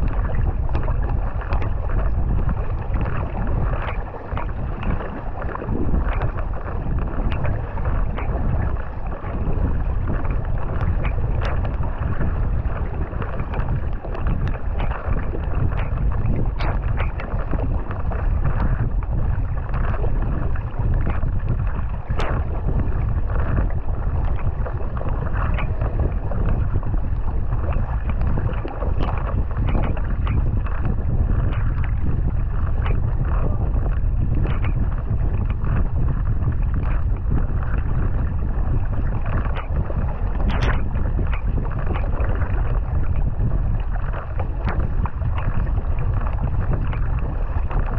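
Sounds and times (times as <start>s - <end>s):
paddle splashes: 0.0s - 47.9s
water rushing along kayak hull: 0.0s - 47.9s
wind buffeting microphone: 0.0s - 47.9s.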